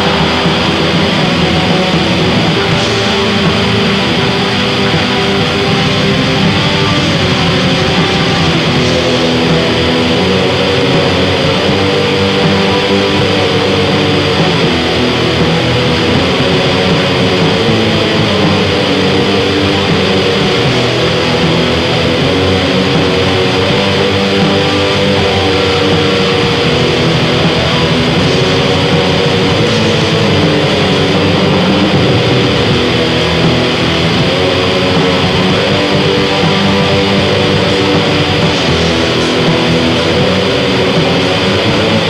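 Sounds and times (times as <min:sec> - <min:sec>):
distorted electric guitars: 0:00.0 - 0:42.0
drums playing: 0:00.0 - 0:42.0.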